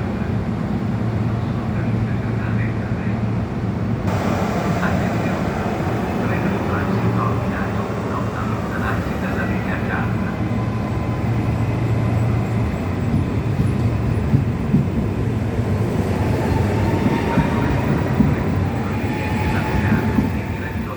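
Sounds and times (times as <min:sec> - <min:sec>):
train wheel and track rumble: 0:00.0 - 0:20.9
train knocks: 0:04.1 - 0:20.9.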